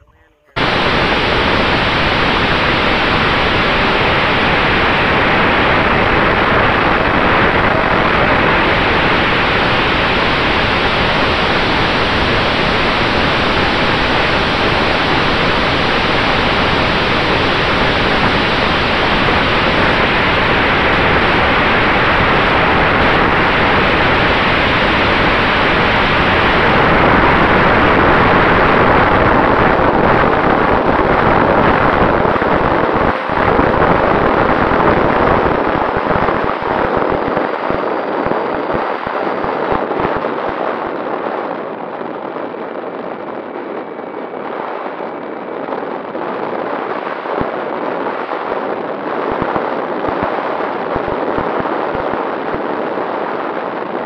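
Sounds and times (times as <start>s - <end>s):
electric ducted fan whine: 0.0s - 54.0s
wind rush on microphone: 0.0s - 54.0s.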